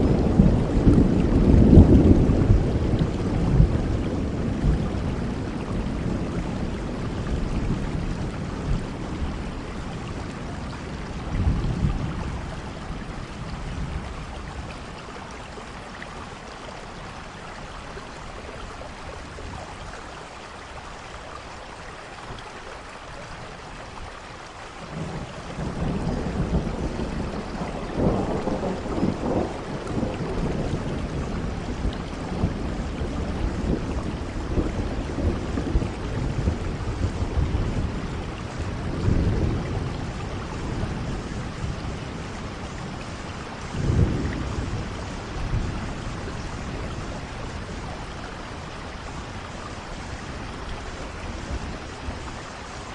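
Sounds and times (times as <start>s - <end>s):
rolling thunder: 0.0s - 15.2s, 24.8s - 52.9s
steady rain: 0.0s - 52.9s.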